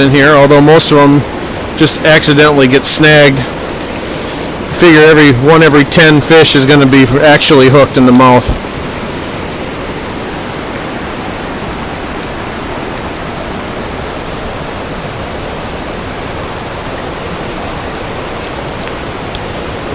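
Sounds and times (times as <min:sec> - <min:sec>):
river water rushing: 0:00.0 - 0:19.9
waterfall roar: 0:00.0 - 0:19.9.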